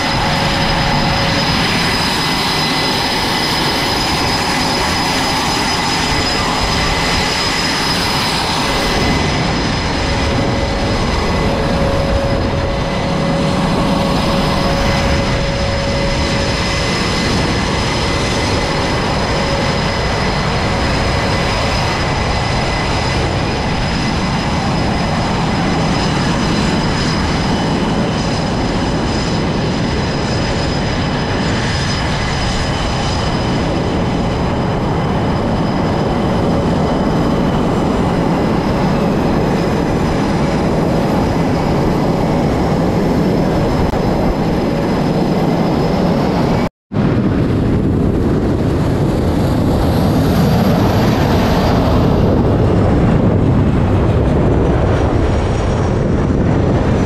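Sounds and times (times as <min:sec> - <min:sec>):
high turbine whine: 0:00.0 - 0:57.0
jet engines roaring: 0:00.0 - 0:57.0.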